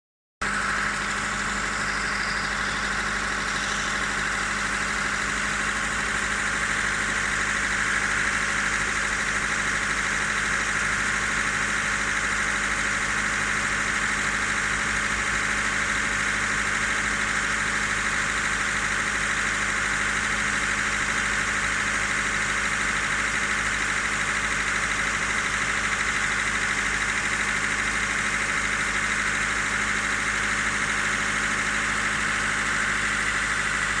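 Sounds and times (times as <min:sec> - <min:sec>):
car engine idling: 0:00.4 - 0:34.0
rapid engine knock: 0:00.4 - 0:34.0.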